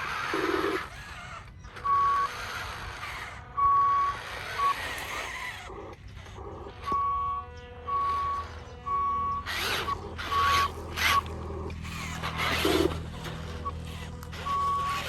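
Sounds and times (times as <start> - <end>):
noisy whir: 0.0 - 15.0
reversing beeper: 1.6 - 5.7, 6.3 - 15.0
short low buzz: 1.9 - 15.0.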